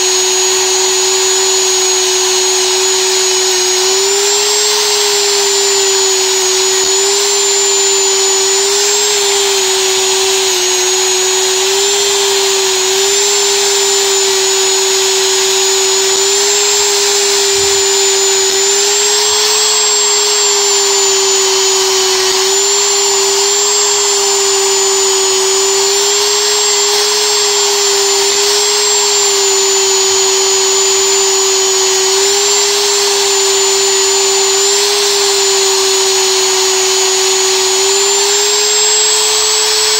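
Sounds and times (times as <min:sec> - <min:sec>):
rotary tool whining: 0:00.0 - 0:39.9
buffing wheel scrubbing metal: 0:00.8 - 0:39.9.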